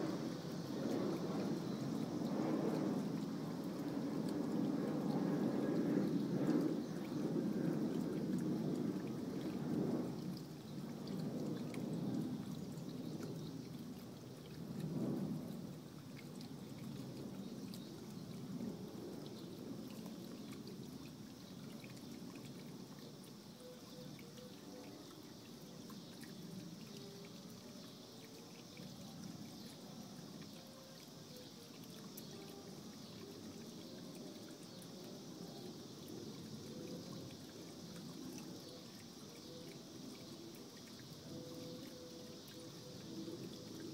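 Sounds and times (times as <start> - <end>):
garden fountain bubbling and trickling: 0.0 - 43.9.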